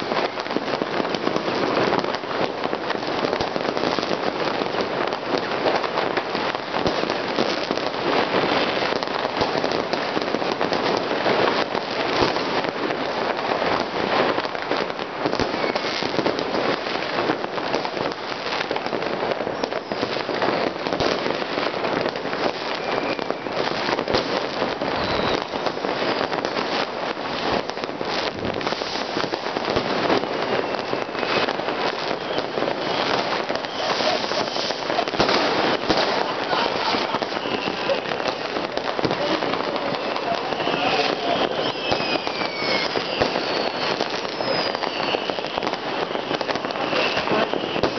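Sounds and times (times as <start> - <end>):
faint firework whistles: 0.0 - 47.9
fireworks crackling and banging: 0.0 - 47.9.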